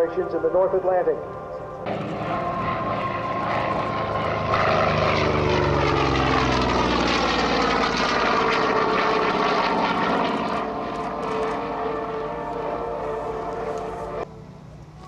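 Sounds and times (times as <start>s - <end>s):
propeller plane flying past: 0.0s - 15.0s.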